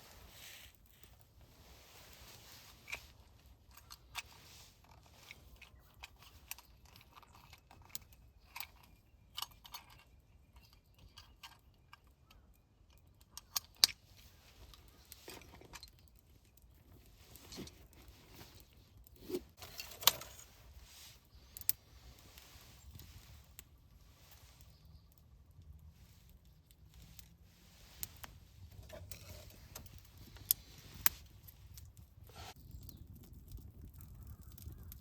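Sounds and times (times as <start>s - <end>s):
small objects clicking and rustling: 0.0s - 35.0s.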